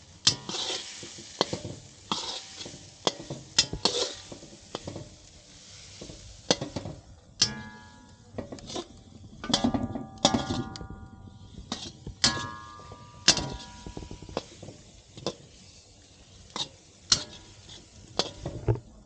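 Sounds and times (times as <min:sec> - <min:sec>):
metal utensil scraping a pot: 0:00.3 - 0:05.1, 0:07.4 - 0:18.8.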